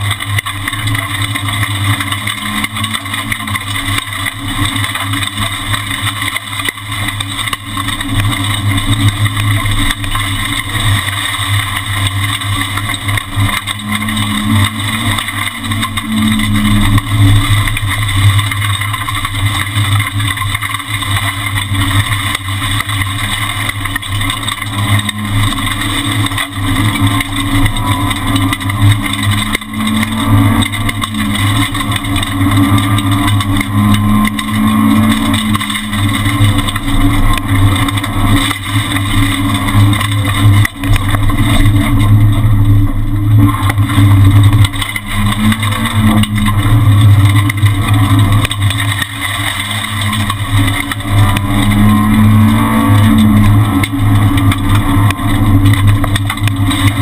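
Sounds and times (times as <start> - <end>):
rally car engine running hard: 0.0 - 57.0.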